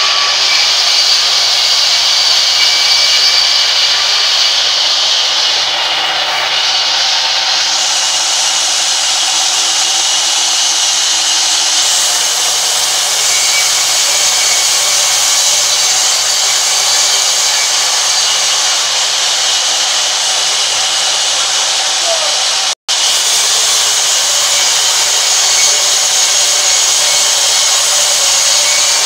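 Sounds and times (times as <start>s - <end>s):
band saw cutting through log: 0.0s - 29.0s.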